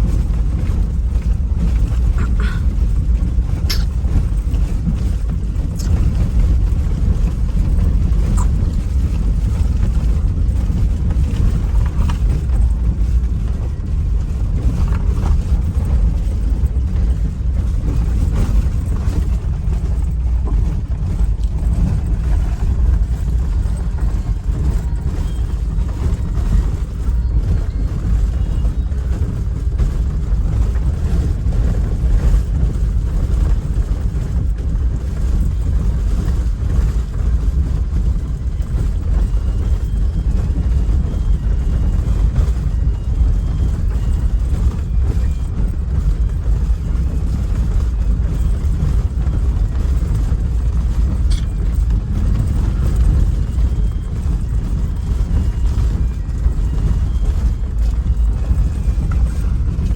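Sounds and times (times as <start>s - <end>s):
engine rumble: 0.0s - 59.9s.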